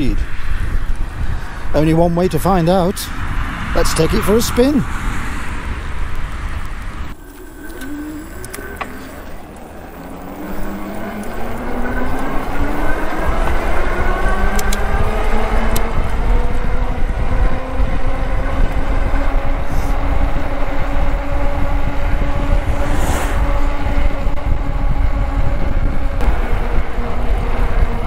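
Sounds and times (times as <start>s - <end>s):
electric bike motor whining: 0.0s - 2.5s, 3.1s - 28.0s
wind rumble on microphone: 0.0s - 28.0s.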